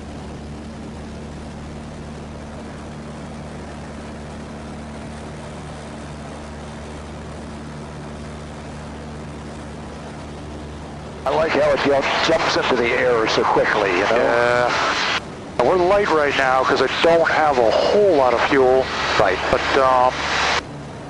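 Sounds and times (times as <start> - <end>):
aircraft engine and propeller drone: 0.0 - 21.0.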